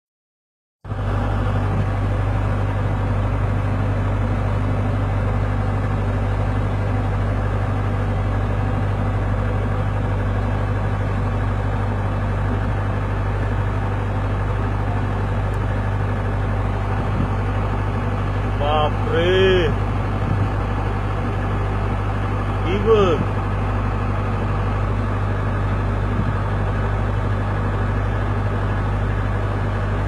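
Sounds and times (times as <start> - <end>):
low engine hum: 0.8 - 30.0.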